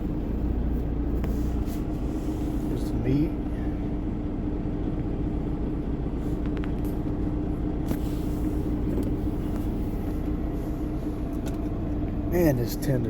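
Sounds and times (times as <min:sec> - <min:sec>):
constant hum: 0:00.0 - 0:13.0
truck engine drone: 0:00.0 - 0:13.0.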